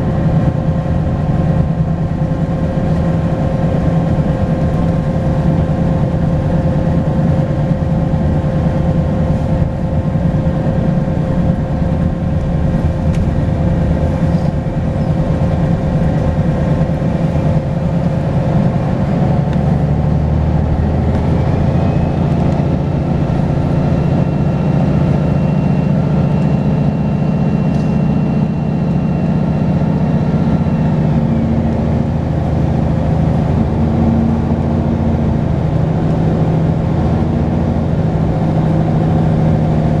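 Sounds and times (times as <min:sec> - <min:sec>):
high-pitched whine: 0:00.0 - 0:35.9
bus engine running: 0:00.0 - 0:40.0.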